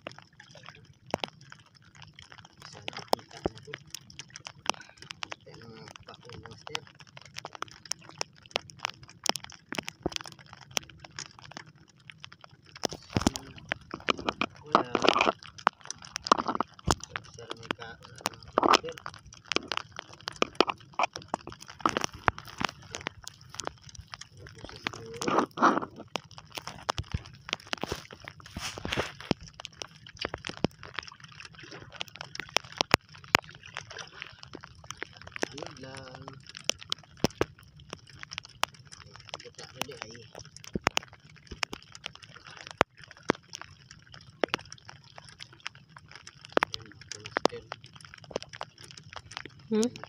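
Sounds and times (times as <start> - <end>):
water rushing: 0.0 - 50.0
sharp clicks and light knocks: 2.2 - 50.0.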